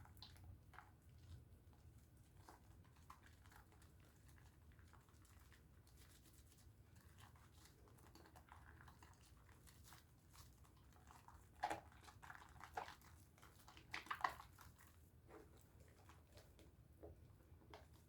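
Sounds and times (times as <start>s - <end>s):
soap lathering wet squishing: 1.7s - 18.0s.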